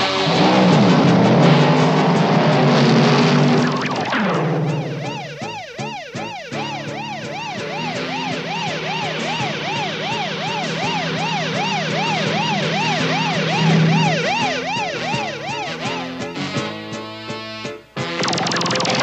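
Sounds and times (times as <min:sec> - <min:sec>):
cartoon siren warbling tone: 0:00.0 - 0:16.2, 0:18.2 - 0:19.0.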